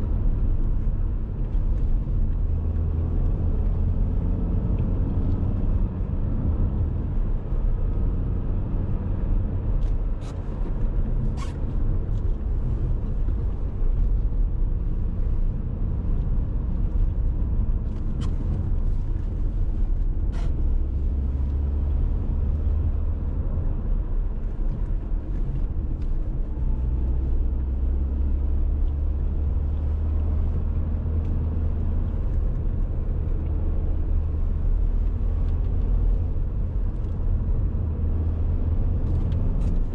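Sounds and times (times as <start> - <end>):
car engine and tyres rumble: 0.0 - 39.9.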